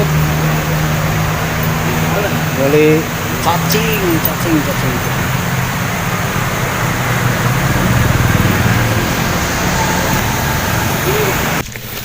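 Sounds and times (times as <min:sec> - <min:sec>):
road and wind noise: 0:00.0 - 0:12.0
vehicle engine rumble: 0:00.0 - 0:12.0.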